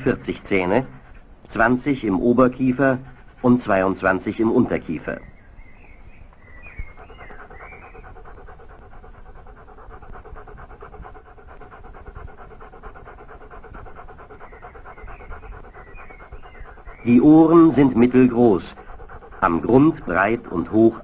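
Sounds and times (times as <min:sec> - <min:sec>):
dog panting rapidly: 0:00.0 - 0:05.3, 0:06.5 - 0:21.0.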